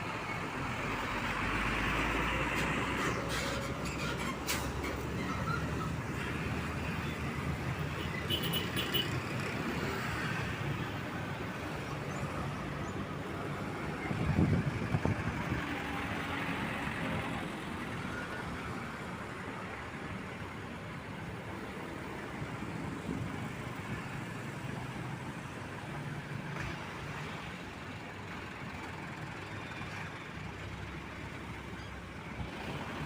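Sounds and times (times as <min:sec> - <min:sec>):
road traffic engines: 0:00.0 - 0:33.0.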